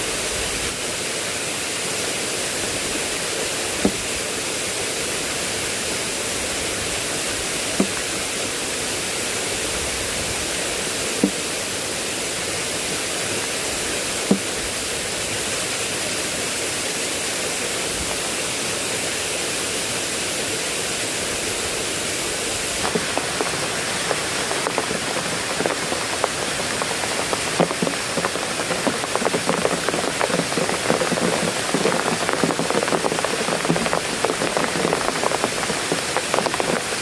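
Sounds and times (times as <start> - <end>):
heavy rain: 0.0 - 37.0.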